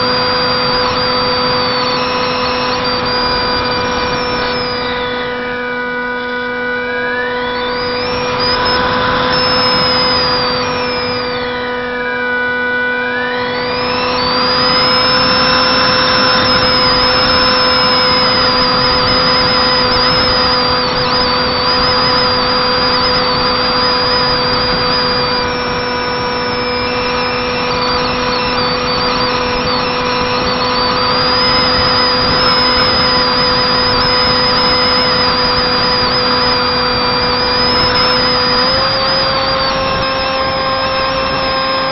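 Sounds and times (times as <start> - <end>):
electric motor and propeller whining: 0.0 - 41.9
steady hum: 0.0 - 41.9.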